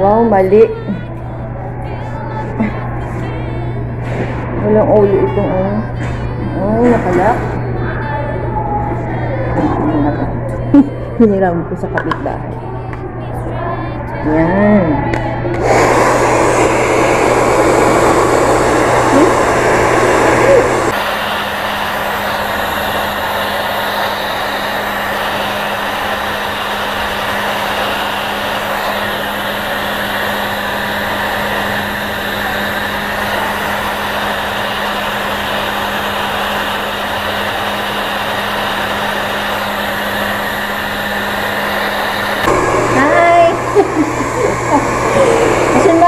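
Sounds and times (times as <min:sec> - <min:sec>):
hair dryer running: 0:00.0 - 0:46.0.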